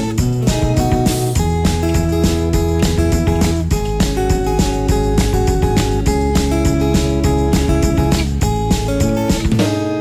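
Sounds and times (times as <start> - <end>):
steady beat: 0.0 - 9.7
strummed guitar: 0.0 - 10.0.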